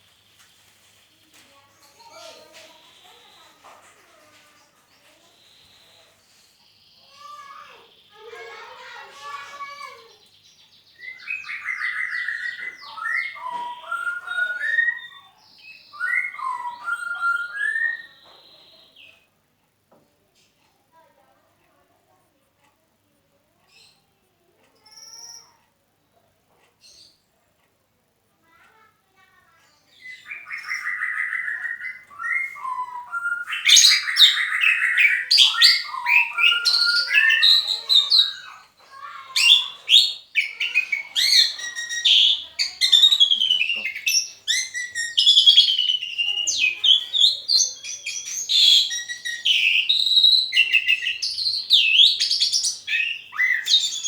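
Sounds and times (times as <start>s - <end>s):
songbird singing: 0.0s - 19.4s, 23.6s - 27.3s, 28.4s - 54.0s.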